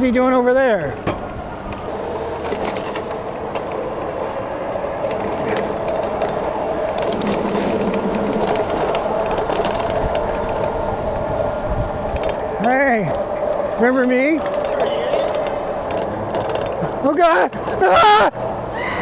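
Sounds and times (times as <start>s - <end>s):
bike rattles and clicks: 0.0s - 17.9s.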